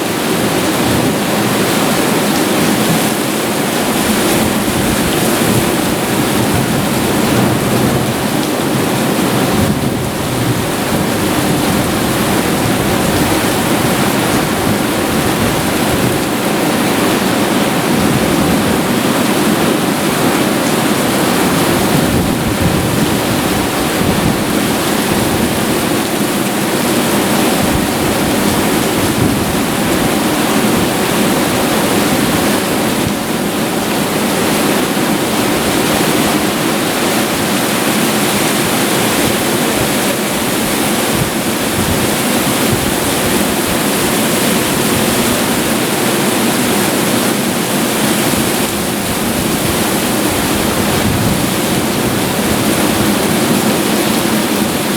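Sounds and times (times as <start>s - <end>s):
heavy rain: 0.0s - 54.9s.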